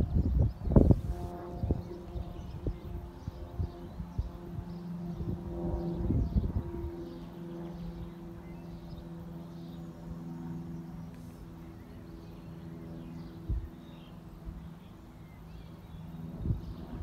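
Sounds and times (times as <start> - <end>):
birds chirping: 0.0 - 17.0
low engine hum: 0.0 - 17.0.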